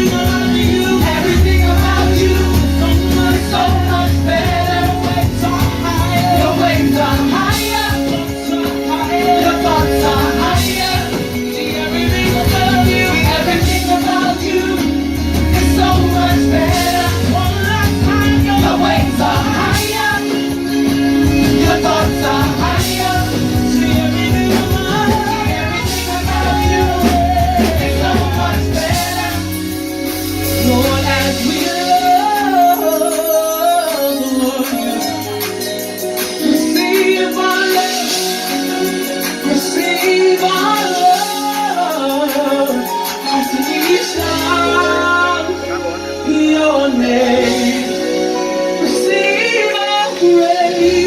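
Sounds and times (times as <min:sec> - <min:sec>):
band playing: 0:00.0 - 0:51.0
worship team singing: 0:00.0 - 0:51.0.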